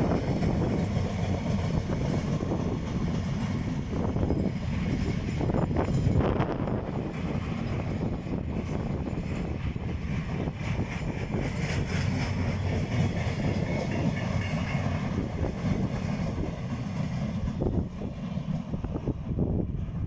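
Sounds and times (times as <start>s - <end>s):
wheels clickety-clack: 0.0s - 19.3s
train rumbling past on rails: 0.0s - 20.0s.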